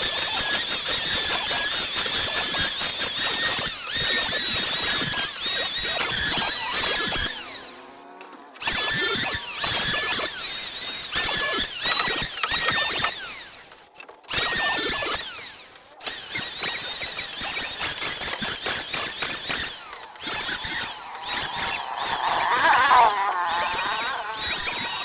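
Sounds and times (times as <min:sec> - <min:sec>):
power tool cutting wood: 0:00.0 - 0:25.0.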